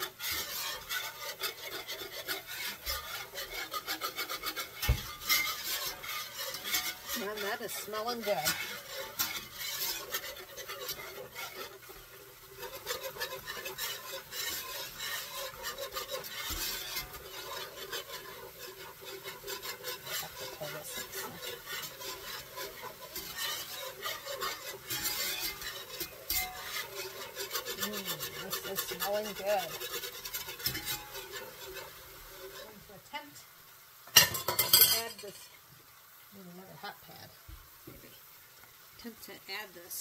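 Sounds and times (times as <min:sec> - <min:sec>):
utensil scraping a pan: 0:00.0 - 0:40.0.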